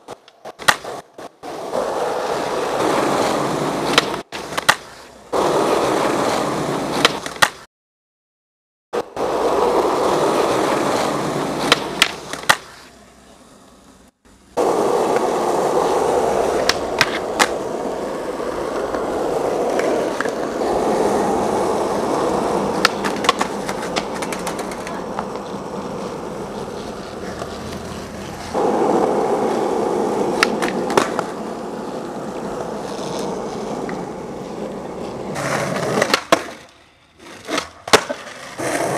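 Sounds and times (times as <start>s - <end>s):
skateboard clacking on ground: 0.0s - 7.6s, 9.0s - 13.0s, 14.6s - 38.9s
skateboard wheels rolling on asphalt: 0.0s - 7.7s, 9.0s - 38.9s.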